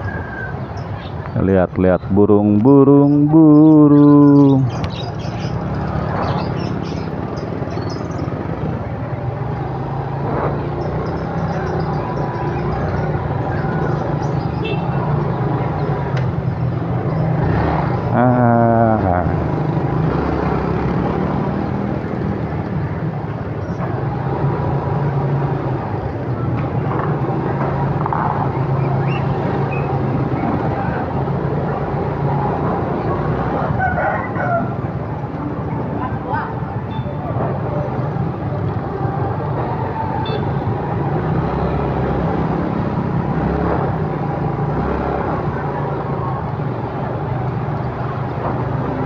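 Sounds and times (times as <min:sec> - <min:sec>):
caged birds chirping: 0:00.0 - 0:46.7
street traffic passing: 0:00.0 - 0:49.0.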